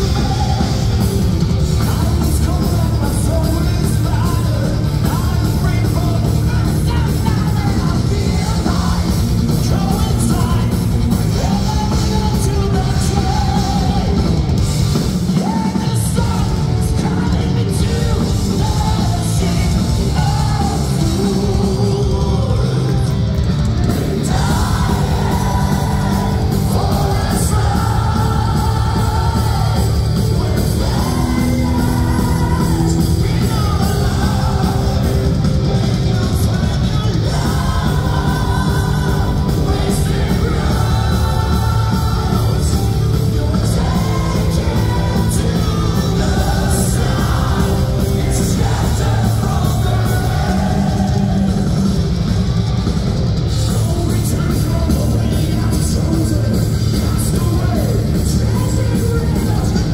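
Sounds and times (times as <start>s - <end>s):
bass guitar: 0.0s - 59.9s
drums: 0.0s - 59.9s
electric guitars: 0.0s - 59.9s
lead vocals singing: 0.0s - 59.9s.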